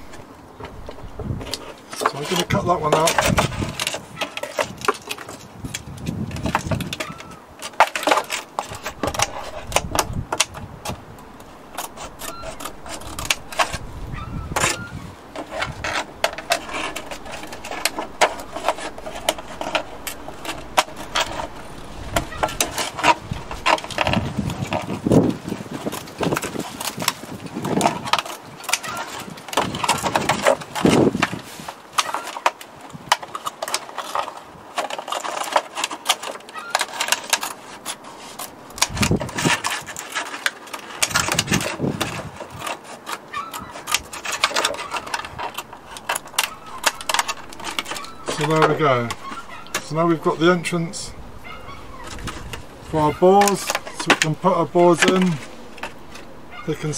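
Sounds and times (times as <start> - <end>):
plastic crackling: 0.0 - 56.9.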